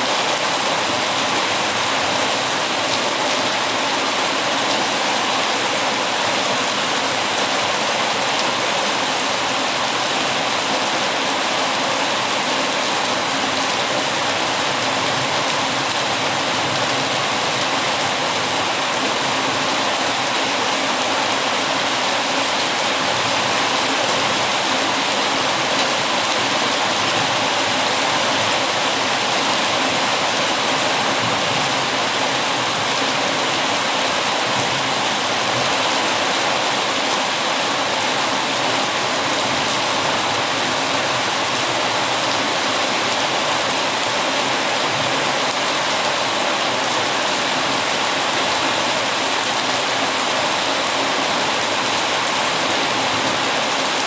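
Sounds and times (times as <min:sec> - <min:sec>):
heavy rainfall: 0:00.0 - 0:54.0.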